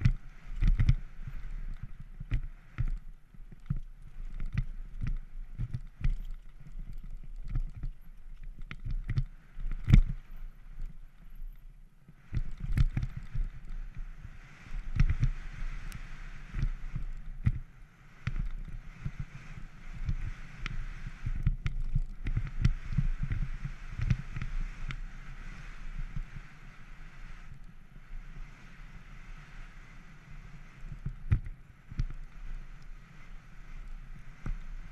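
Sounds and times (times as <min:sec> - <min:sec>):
wind rumble on microphone: 0:00.0 - 0:34.9.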